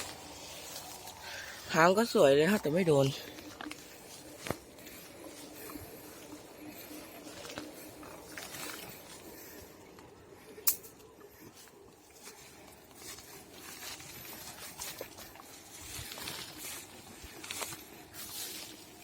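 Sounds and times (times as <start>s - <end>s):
footsteps through grass: 0.0s - 9.8s, 11.0s - 19.0s.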